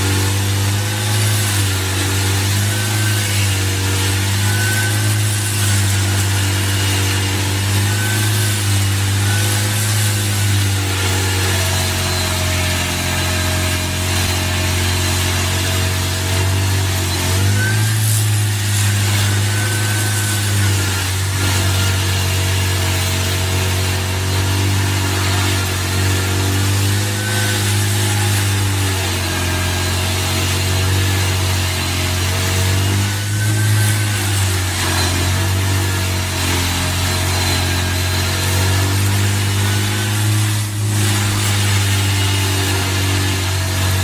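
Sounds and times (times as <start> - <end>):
heavy machine engine running: 0.0 - 44.0.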